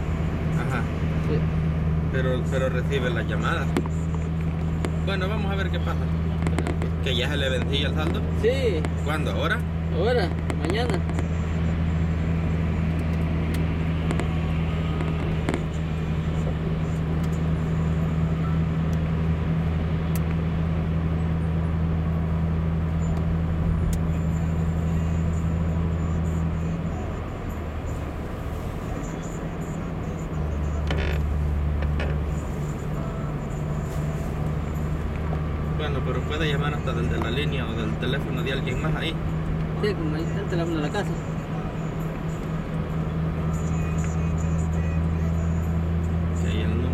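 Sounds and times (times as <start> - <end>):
car engine hum inside cabin: 0.0 - 46.9.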